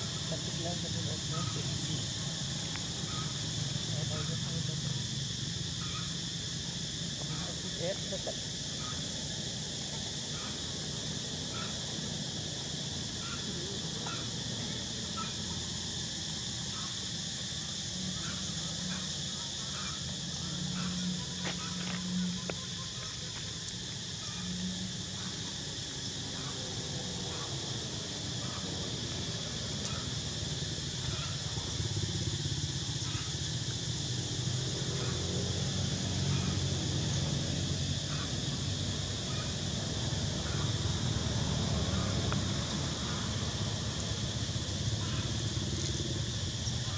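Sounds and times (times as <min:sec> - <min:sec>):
high-pitched insect drone: 0:00.0 - 0:46.9.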